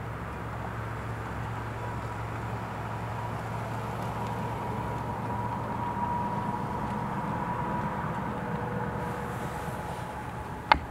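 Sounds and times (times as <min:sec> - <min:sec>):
low mechanical hum and rumble: 0:00.0 - 0:10.9.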